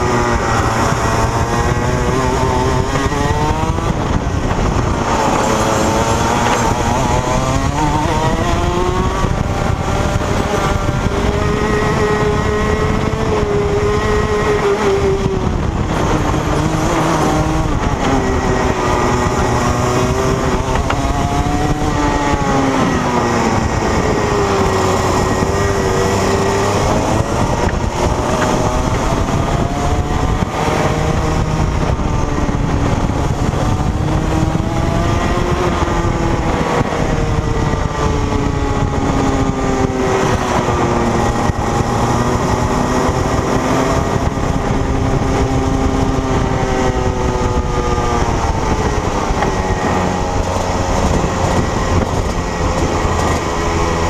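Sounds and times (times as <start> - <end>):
kart engine revving: 0.0 - 54.0
wind rush: 0.0 - 54.0.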